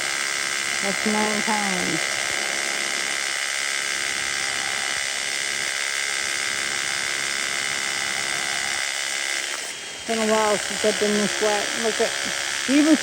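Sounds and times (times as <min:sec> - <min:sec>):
motor whining: 0:00.0 - 0:13.0.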